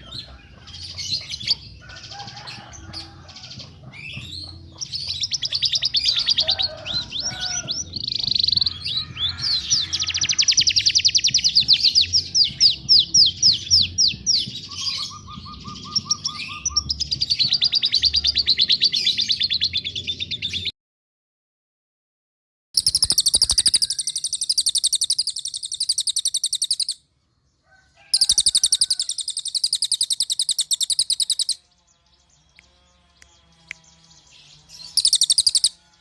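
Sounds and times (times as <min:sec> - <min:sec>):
low bird trill: 0:00.0 - 0:20.7, 0:22.8 - 0:27.0, 0:28.0 - 0:36.0
songbirds trilling and chirping: 0:00.0 - 0:20.7, 0:22.8 - 0:36.0.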